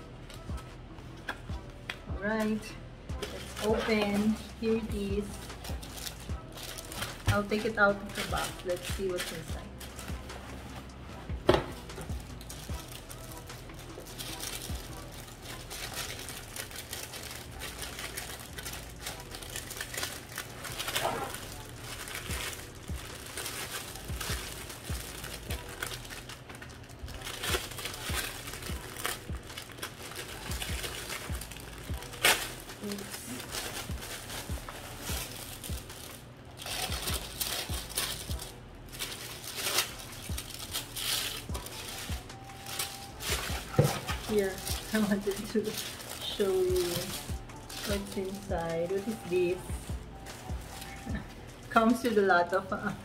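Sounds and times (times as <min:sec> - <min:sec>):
tissue paper rustling: 0:02.2 - 0:52.9.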